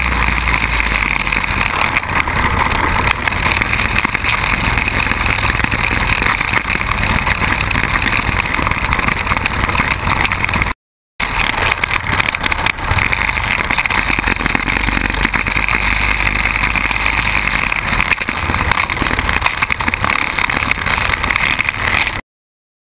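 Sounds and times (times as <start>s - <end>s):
quad bike engine: 0.0s - 22.2s.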